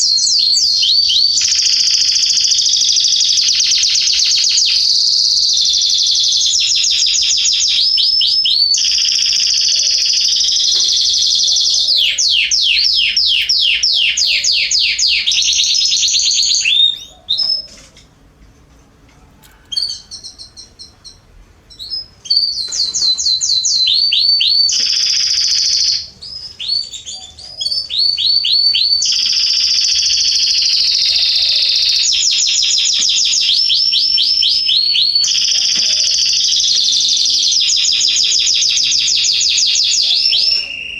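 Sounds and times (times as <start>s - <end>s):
canary singing trills: 0.0s - 18.2s, 19.2s - 40.9s.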